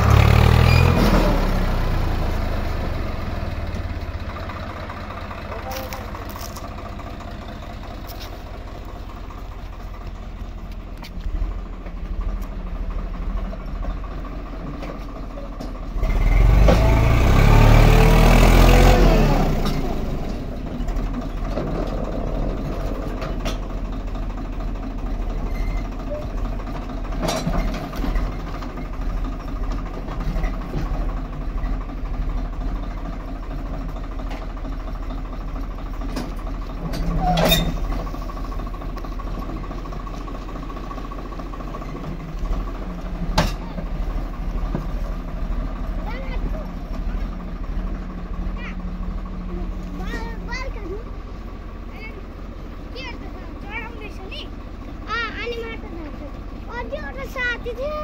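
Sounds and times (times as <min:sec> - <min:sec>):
diesel tractor engine revving: 0:00.0 - 0:58.0.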